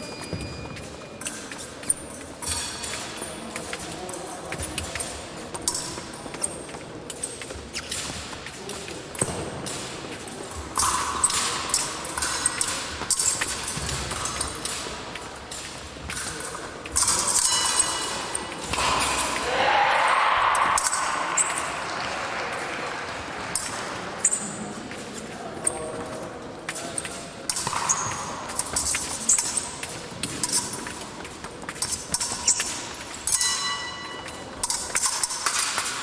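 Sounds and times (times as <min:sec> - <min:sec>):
fencing blades clashing: 0:00.0 - 0:36.0.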